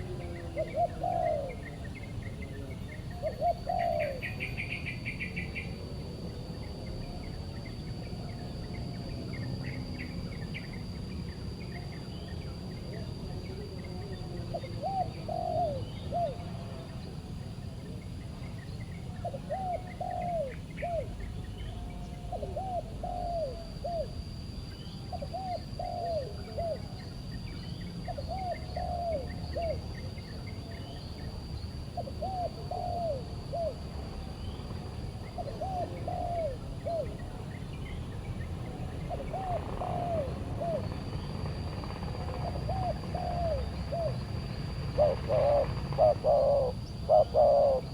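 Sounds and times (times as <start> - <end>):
dove cooing: 0.0 - 9.0, 12.8 - 17.4, 19.1 - 47.9.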